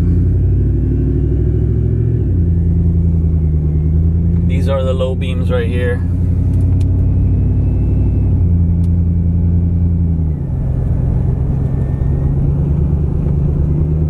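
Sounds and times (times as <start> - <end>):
pickup truck engine drone: 0.0 - 14.0.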